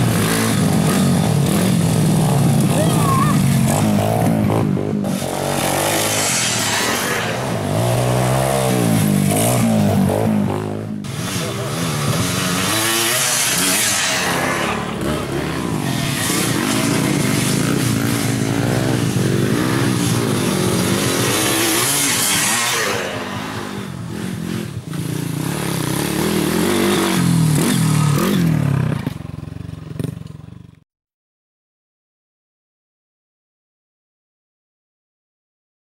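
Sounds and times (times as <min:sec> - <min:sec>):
motorcycle engine revving: 0:00.0 - 0:30.8.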